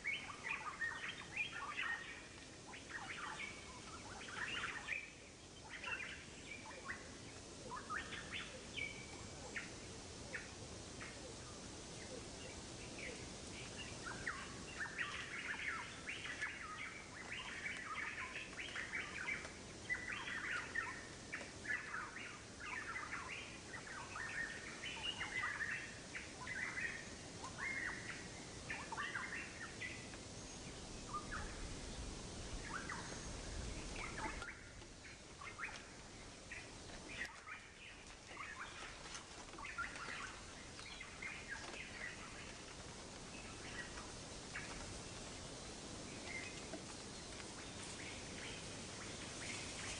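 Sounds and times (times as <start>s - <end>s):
faint steady hiss: 0.0s - 49.9s
small birds chirping: 0.0s - 49.9s.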